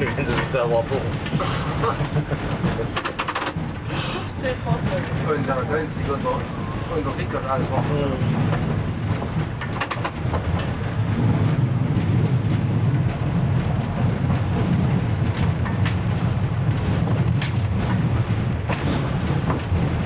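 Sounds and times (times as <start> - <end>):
wheels clicking on track: 0.0 - 20.0.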